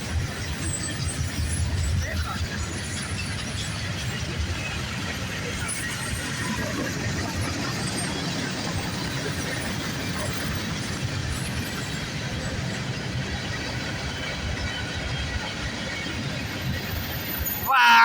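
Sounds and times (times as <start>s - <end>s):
freight train rolling past: 0.0s - 18.0s.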